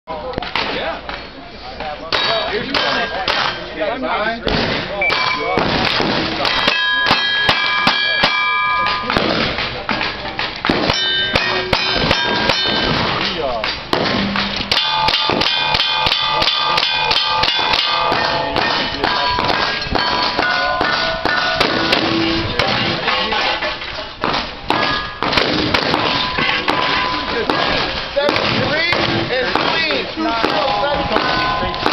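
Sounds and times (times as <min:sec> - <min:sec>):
gunshots: 0:04.4 - 0:23.4, 0:24.2 - 0:31.9
steel plates clanging: 0:05.0 - 0:31.9.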